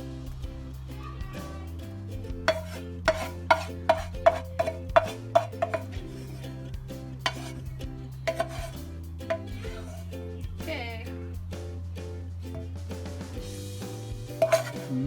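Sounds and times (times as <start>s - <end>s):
background music of low chords: 0.0s - 15.0s.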